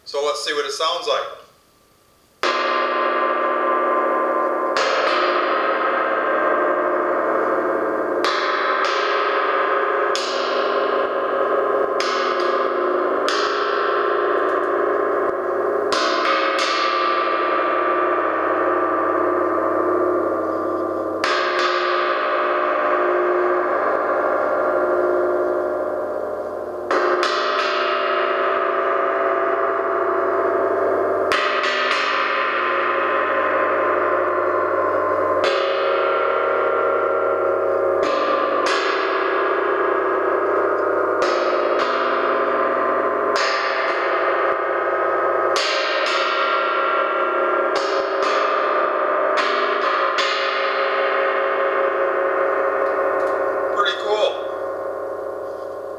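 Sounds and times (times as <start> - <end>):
gong struck with mallet: 2.4 - 55.9.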